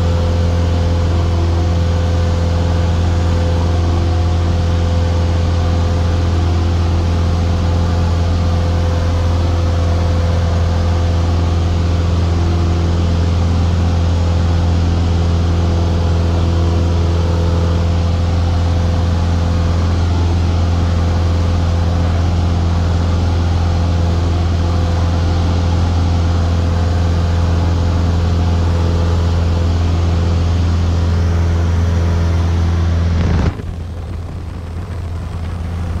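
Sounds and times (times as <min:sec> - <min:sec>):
light aircraft engine drone: 0:00.0 - 0:36.0.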